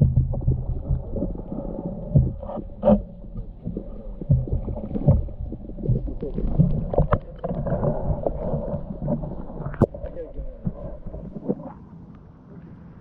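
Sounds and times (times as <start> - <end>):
low underwater rumble: 0.0 - 13.0
underwater knocks and sloshing: 0.0 - 13.0.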